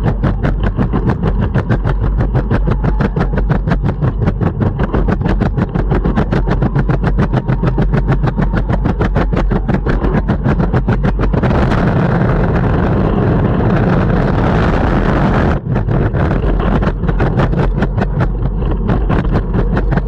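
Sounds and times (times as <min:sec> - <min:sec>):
longboard wheels clacking on pavement: 0:00.0 - 0:12.0, 0:15.3 - 0:20.0
longboard wheels rolling rumble: 0:00.0 - 0:20.0.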